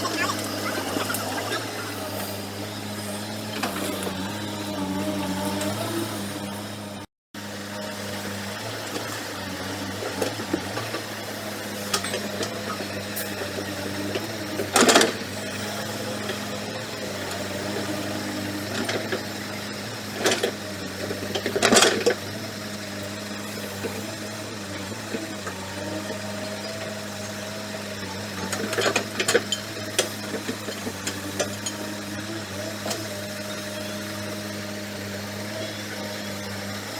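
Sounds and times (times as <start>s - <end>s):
diesel engine of heavy machinery: 0.0s - 36.9s.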